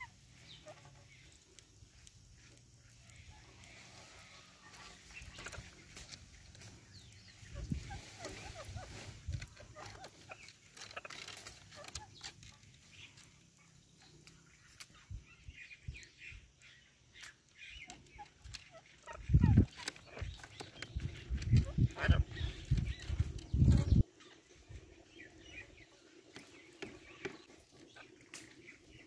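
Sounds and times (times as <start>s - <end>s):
parakeets clucking chatter: 0.0s - 29.0s.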